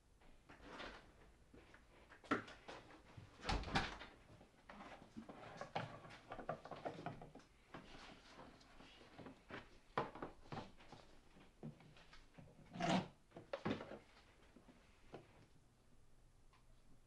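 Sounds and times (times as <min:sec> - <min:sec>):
knocks and rustles of handling: 0:00.2 - 0:15.5.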